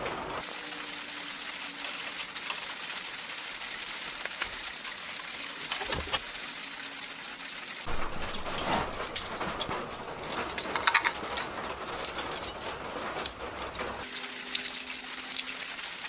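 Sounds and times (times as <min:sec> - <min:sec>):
rain drumming on a roof: 0:00.0 - 0:16.0.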